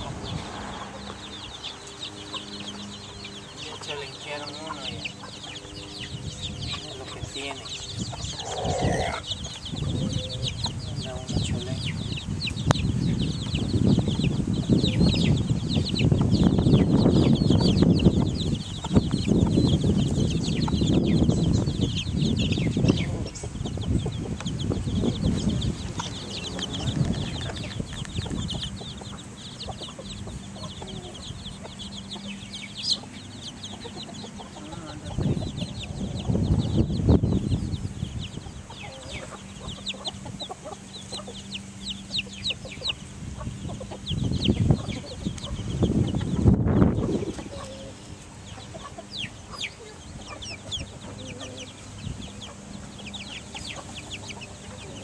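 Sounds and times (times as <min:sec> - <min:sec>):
chicks peeping: 0:00.0 - 0:55.0
low rumbling noise: 0:00.0 - 0:55.0.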